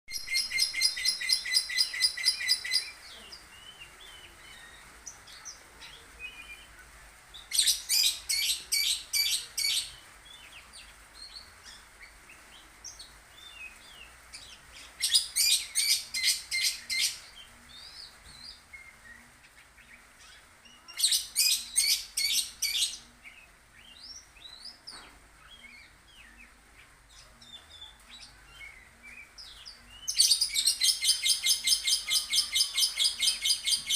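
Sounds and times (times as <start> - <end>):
lovebird chirping: 0.1 - 33.9.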